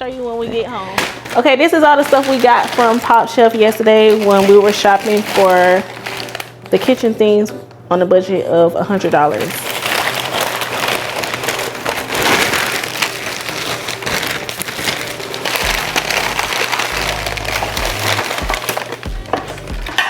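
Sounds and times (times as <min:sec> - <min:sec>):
shopping bags rustling and crinkling: 0:00.1 - 0:07.5, 0:08.9 - 0:20.0.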